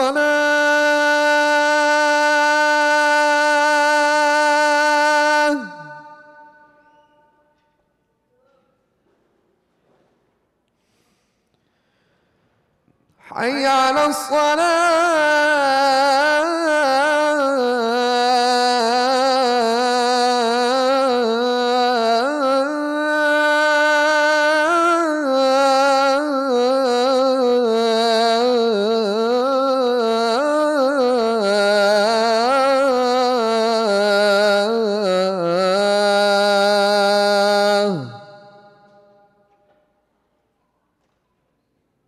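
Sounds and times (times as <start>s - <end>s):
man chanting call to prayer: 0.0s - 7.6s, 13.2s - 39.4s.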